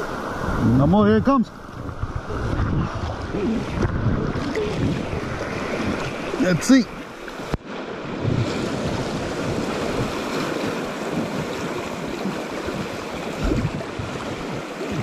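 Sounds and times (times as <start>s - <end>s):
river rapids rushing and splashing: 1.5s - 15.0s.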